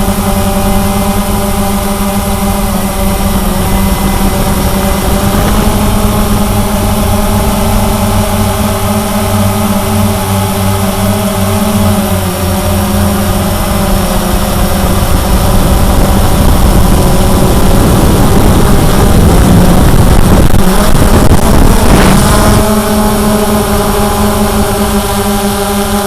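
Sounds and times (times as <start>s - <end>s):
quadcopter motors buzzing: 0.0s - 26.0s.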